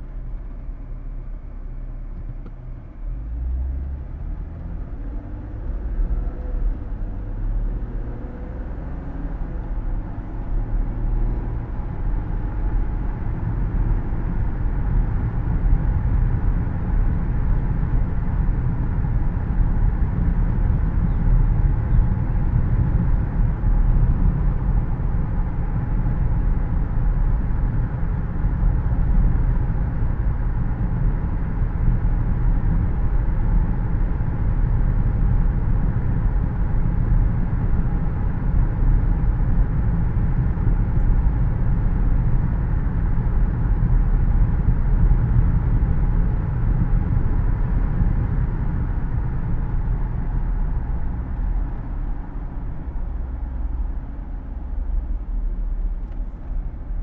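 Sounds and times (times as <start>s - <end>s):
tyre and engine rumble: 0.0s - 57.0s.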